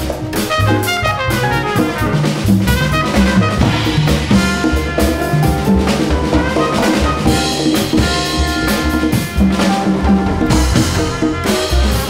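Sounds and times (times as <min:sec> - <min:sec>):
congas: 0:00.0 - 0:12.0
drum kit: 0:00.0 - 0:12.0
jazz band playing: 0:00.0 - 0:12.0
upright bass: 0:00.0 - 0:12.0
trumpet: 0:00.4 - 0:12.0.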